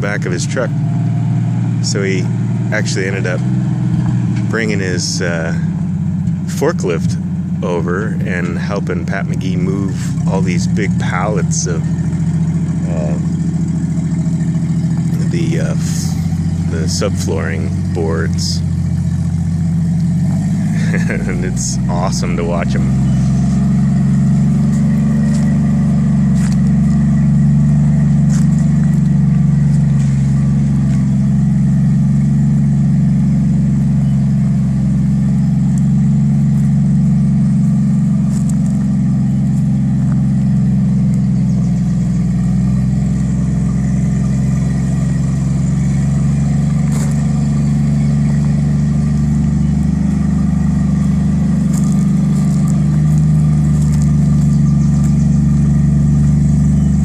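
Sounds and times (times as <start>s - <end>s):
forklift engine humming: 0.0s - 57.0s.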